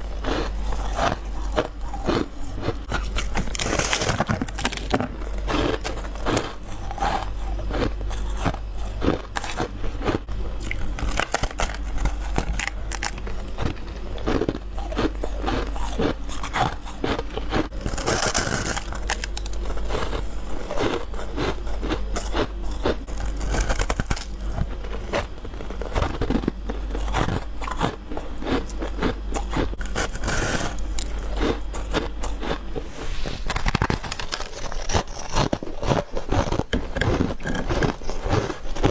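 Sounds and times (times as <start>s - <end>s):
chewing crunchy frost: 0.0s - 38.9s.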